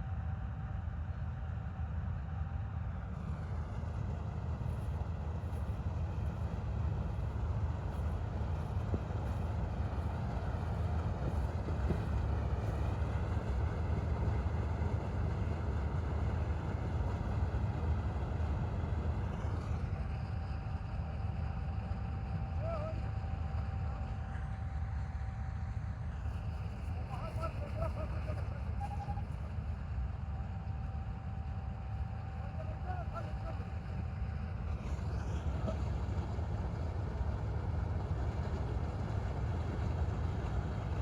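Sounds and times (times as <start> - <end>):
combine harvester engine rumble: 0.1 - 41.0.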